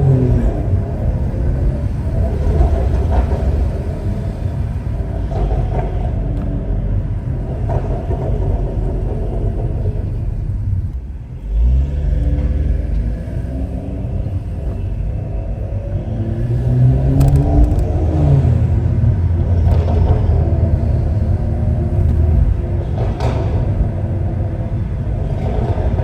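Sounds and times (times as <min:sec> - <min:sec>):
car engine deep rumble: 0:00.0 - 0:26.0.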